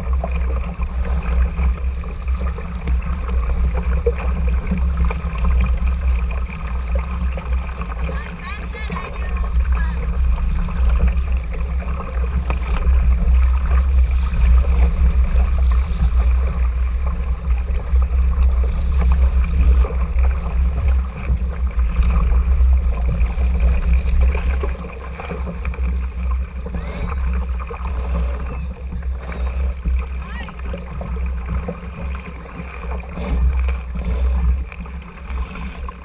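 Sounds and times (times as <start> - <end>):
water rushing along hull: 0.0 - 36.0
wind rumble on microphone: 0.0 - 36.0.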